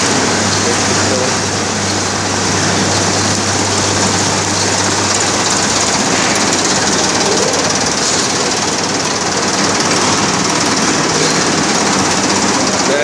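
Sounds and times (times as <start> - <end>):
heavy machinery rattling and humming: 0.0 - 13.0.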